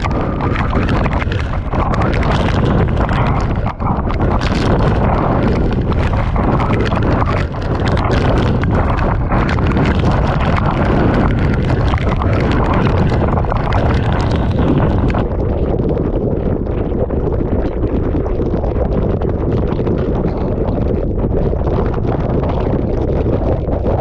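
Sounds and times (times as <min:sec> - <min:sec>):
torrential rain lashing: 0:00.0 - 0:24.0
wind roaring: 0:00.0 - 0:24.0.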